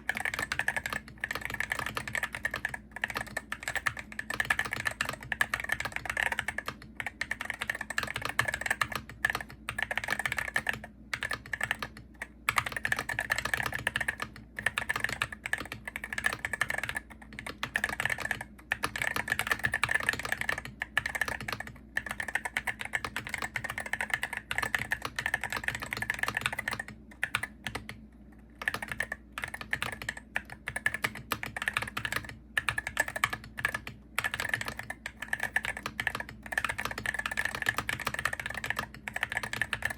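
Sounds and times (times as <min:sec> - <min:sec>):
keyboard typing clicks: 0:00.0 - 0:39.9.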